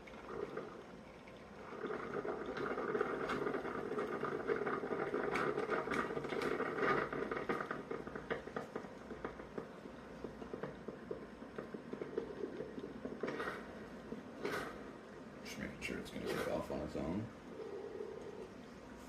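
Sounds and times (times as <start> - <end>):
coffee maker gurgling and sputtering: 0.0 - 19.0.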